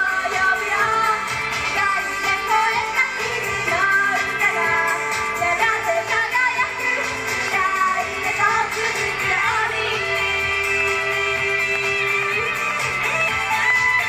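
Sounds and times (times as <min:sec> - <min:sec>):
female voices singing: 0:00.0 - 0:14.0
pop backing track: 0:00.0 - 0:14.0.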